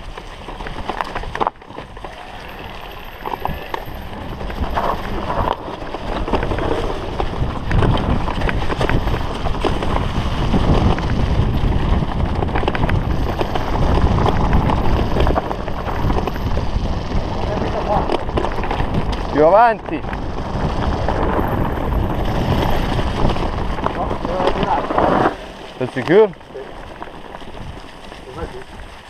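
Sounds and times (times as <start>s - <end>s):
bike rattling over bumps: 0.0s - 29.0s
tyres crunching over leaves: 0.0s - 29.0s
wind rushing over microphone: 0.0s - 29.0s.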